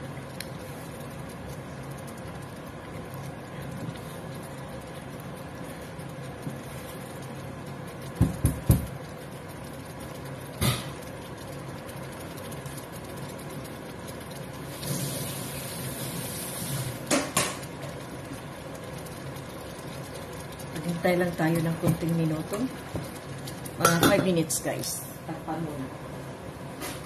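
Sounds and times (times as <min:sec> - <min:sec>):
low kitchen hum: 0:00.0 - 0:27.0.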